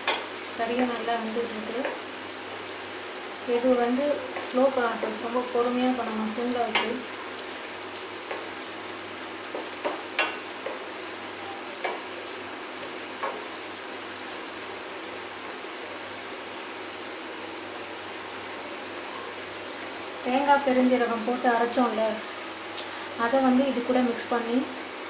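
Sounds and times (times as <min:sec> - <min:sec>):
gravy sizzling in a pan: 0:00.0 - 0:25.0.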